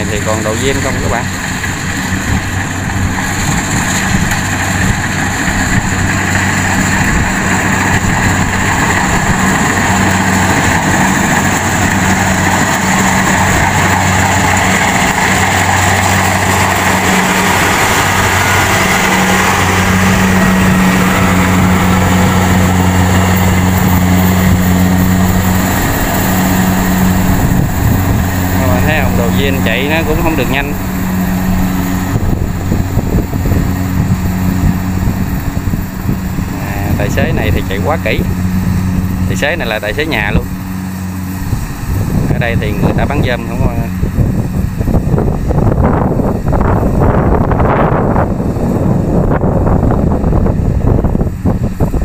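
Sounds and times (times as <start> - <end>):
combine harvester engine running: 0.0 - 52.0.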